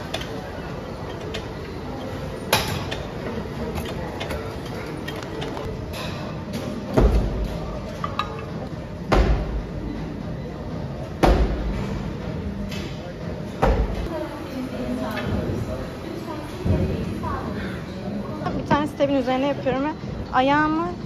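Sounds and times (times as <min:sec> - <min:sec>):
gym background noise: 0:00.0 - 0:21.0.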